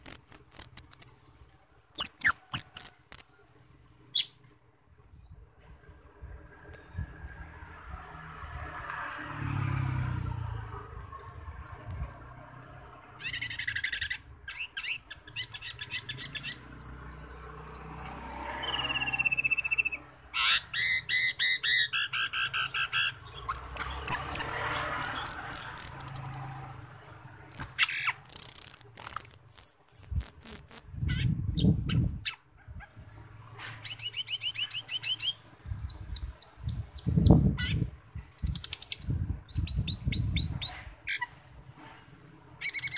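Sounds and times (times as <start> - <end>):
starling singing: 0.0 - 4.4, 6.7 - 7.0, 9.6 - 32.5, 33.8 - 42.9.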